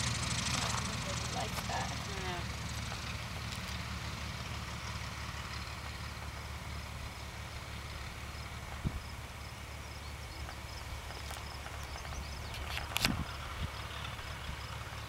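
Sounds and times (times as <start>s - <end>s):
light plane engine droning: 0.0s - 15.0s.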